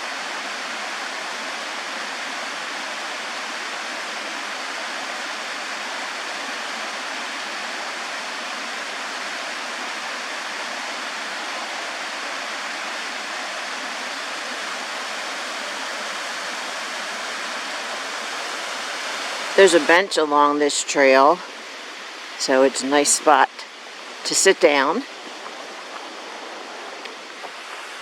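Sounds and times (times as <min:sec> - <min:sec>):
waterfall rushing and splashing: 0:00.0 - 0:28.0.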